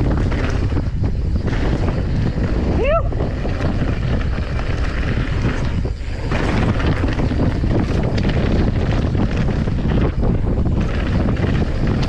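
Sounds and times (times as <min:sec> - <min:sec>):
bike clattering over rough ground: 0:00.0 - 0:12.0
wind rushing over microphone: 0:00.0 - 0:12.0.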